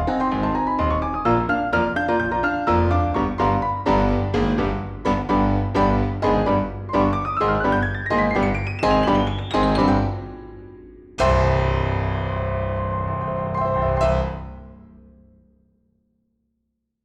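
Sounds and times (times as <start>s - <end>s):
piano chord ringing: 0.0s - 15.2s.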